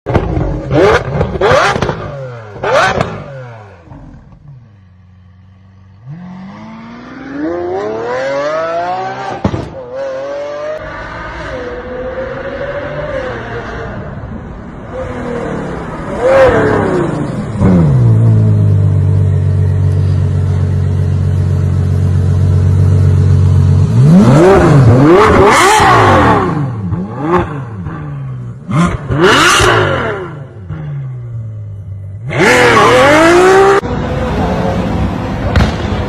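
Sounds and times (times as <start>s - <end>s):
car engine revving: 0.1s - 36.0s.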